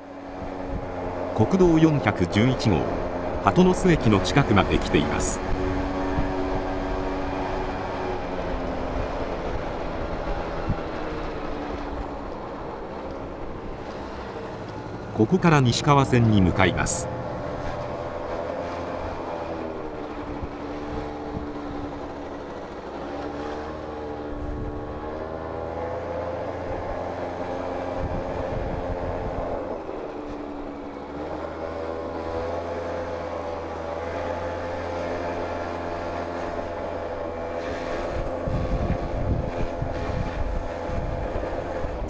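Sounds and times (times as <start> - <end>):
scooter engine running: 0.0 - 42.0.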